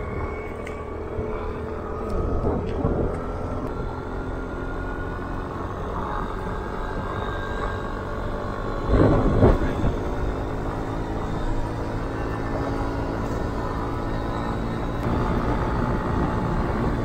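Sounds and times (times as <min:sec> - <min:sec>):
motor scooter engine drone: 0:00.0 - 0:17.0
road noise: 0:00.0 - 0:17.0
wind: 0:00.0 - 0:17.0.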